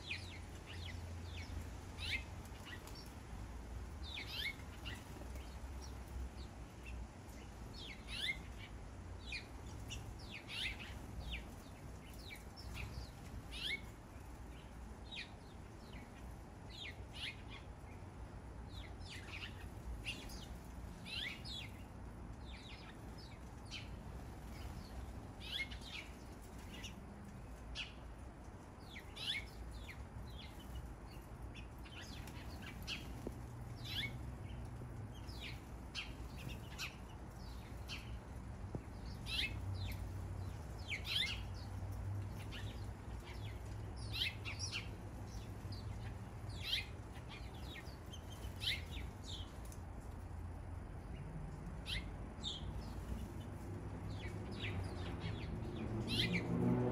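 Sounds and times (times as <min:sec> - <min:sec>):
birds chirping: 0:00.0 - 0:50.2, 0:50.8 - 0:56.9.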